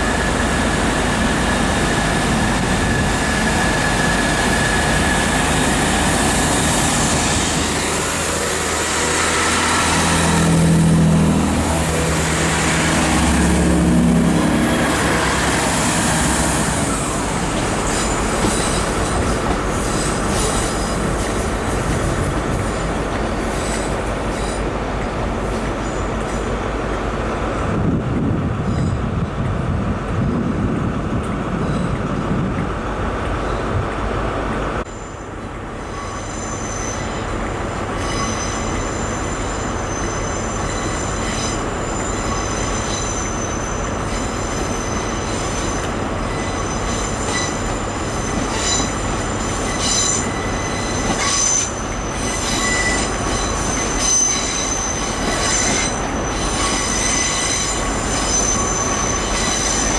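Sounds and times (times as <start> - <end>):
train wheels squealing on rails: 0.0 - 26.9, 28.4 - 29.2, 31.5 - 32.4, 34.8 - 59.9
train rumble: 0.0 - 59.9.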